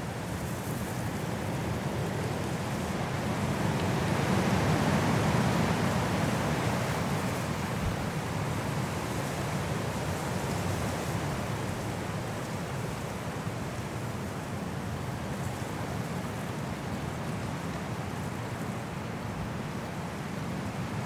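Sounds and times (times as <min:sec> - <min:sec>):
strong wind through trees: 0:00.0 - 0:21.0.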